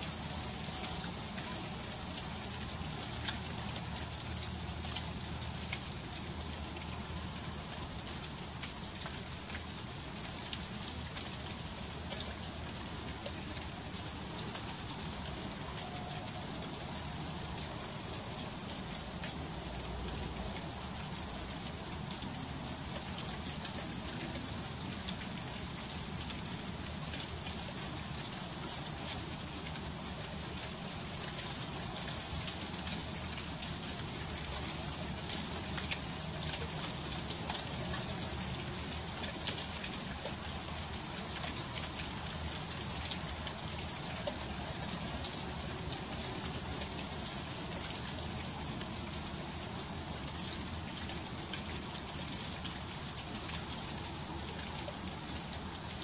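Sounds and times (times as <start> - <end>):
freezing rain ticking on surfaces: 0.0 - 56.0.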